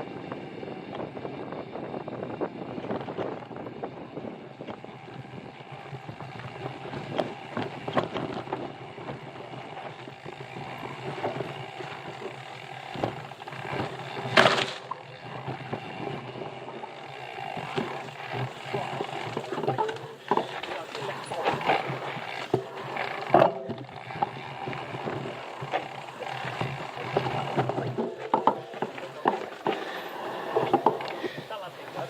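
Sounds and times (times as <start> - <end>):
bike rattling and clicking: 0.0 - 32.0
bike tyres on rough trail: 0.0 - 32.0.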